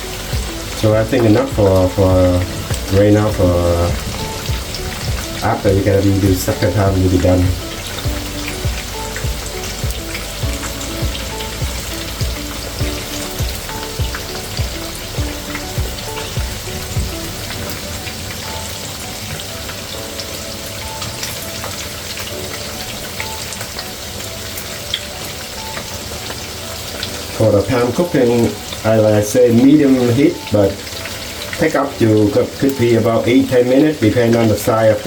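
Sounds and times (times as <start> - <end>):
chicken deep-frying in oil: 0.0 - 35.0
soft background music: 0.0 - 35.0.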